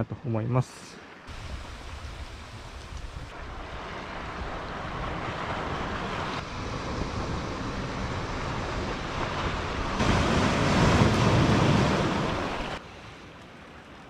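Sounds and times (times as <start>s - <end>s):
surf washing against rocks: 1.2s - 14.0s
wind noise on microphone: 1.3s - 12.8s.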